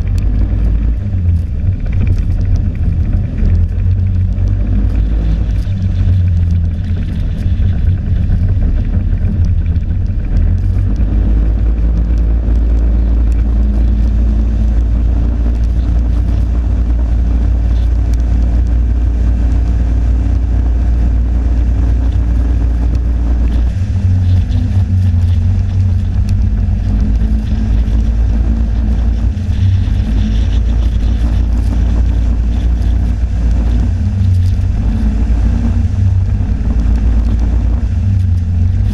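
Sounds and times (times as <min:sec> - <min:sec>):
snowmobile engine droning: 0:00.0 - 0:38.9.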